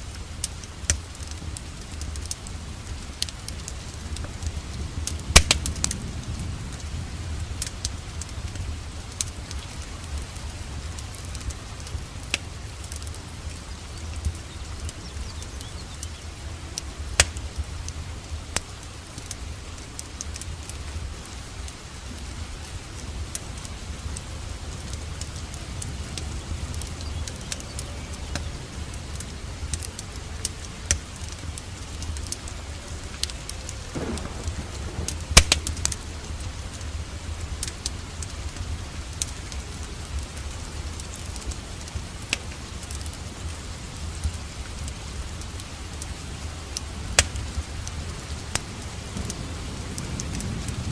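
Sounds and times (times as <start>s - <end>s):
steady rain: 0.0s - 50.9s
wood fire crackling: 0.0s - 50.9s.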